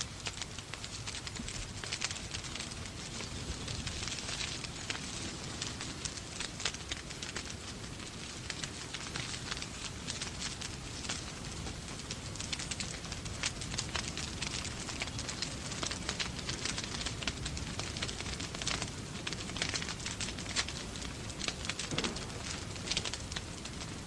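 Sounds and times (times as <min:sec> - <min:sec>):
rain falling: 0:00.0 - 0:24.0
wood fire crackling: 0:00.0 - 0:24.0.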